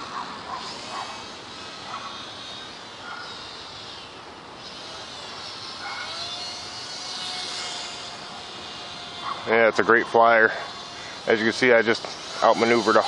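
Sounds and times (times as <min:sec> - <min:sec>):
model plane motor whining: 0:00.0 - 0:13.0.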